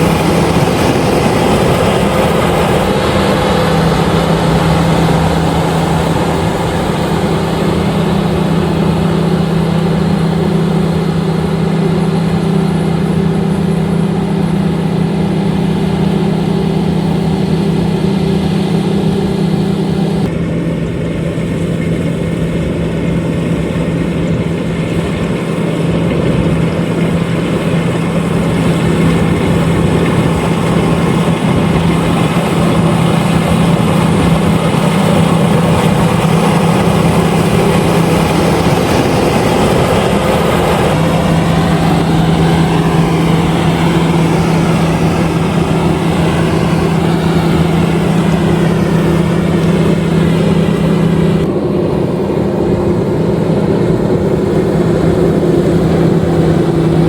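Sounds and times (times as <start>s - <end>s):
combine harvester engine hum: 0.0s - 57.0s
machinery clatter: 0.0s - 57.0s.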